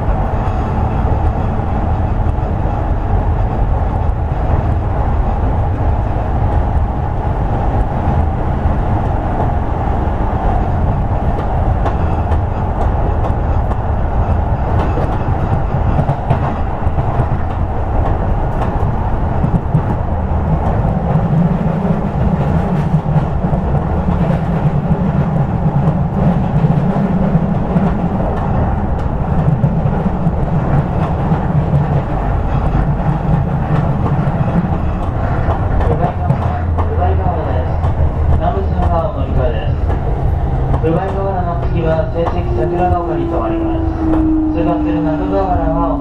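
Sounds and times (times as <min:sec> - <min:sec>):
train wheels on rails: 0:00.0 - 0:46.0.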